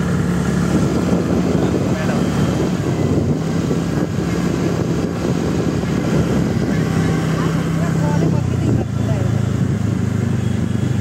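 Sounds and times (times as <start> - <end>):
motor scooter running: 0.0 - 11.0
wind noise on microphone: 0.0 - 11.0.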